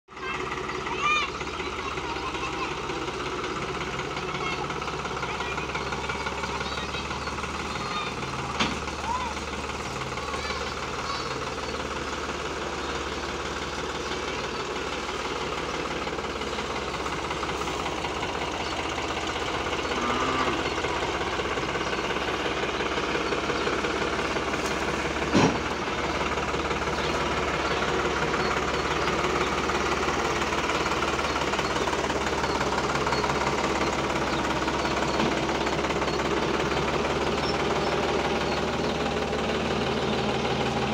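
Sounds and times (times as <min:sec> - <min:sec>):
tractor diesel engine idling: 0:00.1 - 0:40.9.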